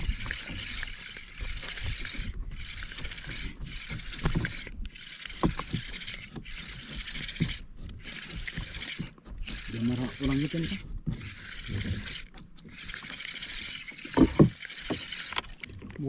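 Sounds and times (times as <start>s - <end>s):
water sloshing against boat: 0.0s - 16.0s.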